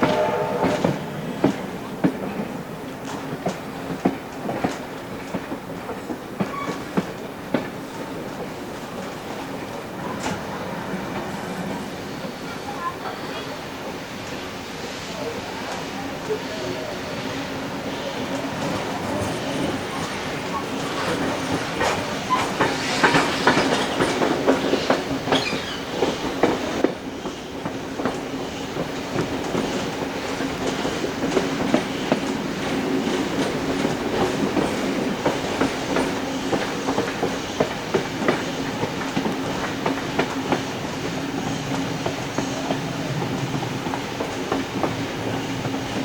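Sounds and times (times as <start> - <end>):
train wheels clattering over rail joints: 0.0 - 12.3, 17.8 - 46.0
train rumbling hum: 0.0 - 46.0.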